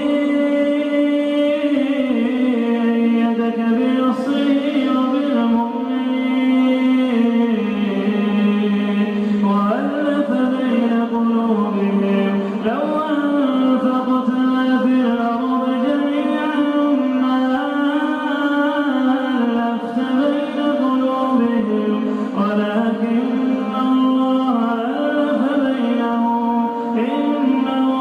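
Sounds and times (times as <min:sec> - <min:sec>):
man chanting melodic recitation: 0:00.0 - 0:28.0.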